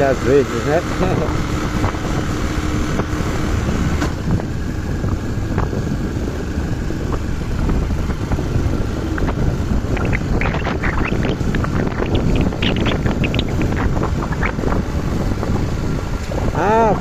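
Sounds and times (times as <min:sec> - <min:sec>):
vehicle engine and road noise: 0:00.0 - 0:17.0
wind rushing over microphone: 0:00.8 - 0:17.0.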